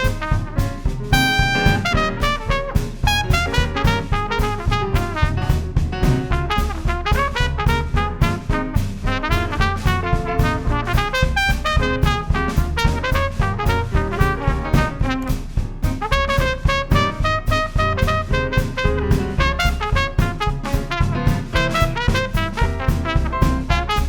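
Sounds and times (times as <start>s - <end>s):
jazz band playing: 0.0s - 24.0s
trumpet and trombone: 0.0s - 24.0s.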